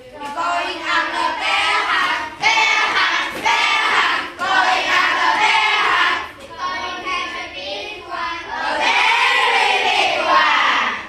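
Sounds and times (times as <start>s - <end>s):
children chanting in unison: 0.1s - 11.0s.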